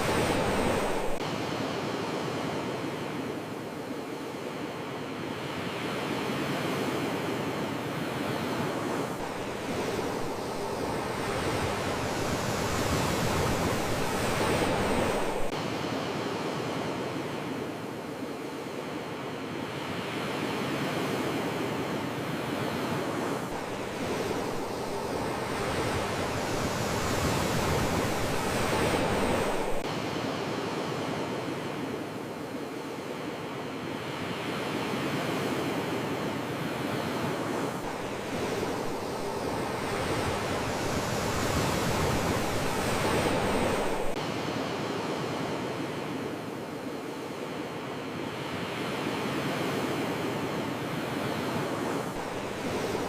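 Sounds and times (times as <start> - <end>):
sea waves washing in: 0.0 - 53.0.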